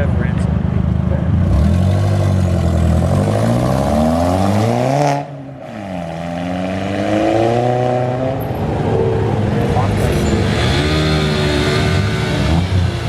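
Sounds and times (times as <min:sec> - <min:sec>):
car engine revving: 0:01.2 - 0:13.0.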